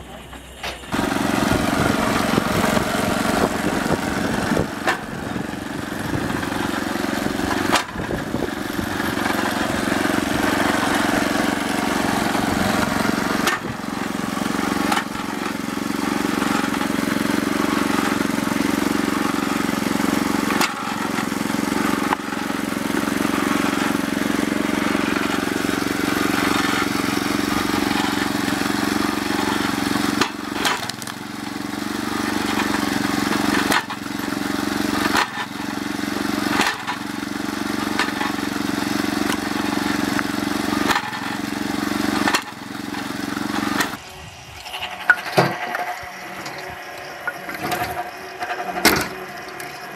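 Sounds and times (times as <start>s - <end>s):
small gasoline engine running: 0.0s - 49.9s.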